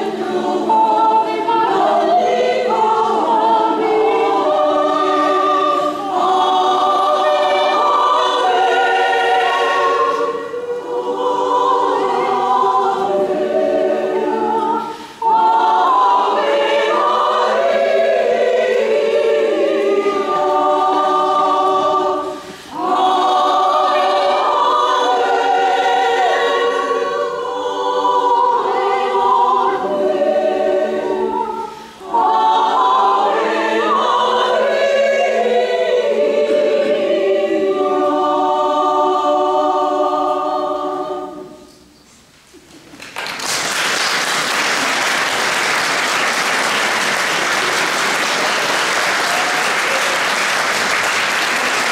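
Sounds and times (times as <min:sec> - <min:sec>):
women's choir singing unaccompanied: 0:00.0 - 0:42.3, 0:43.4 - 0:51.9.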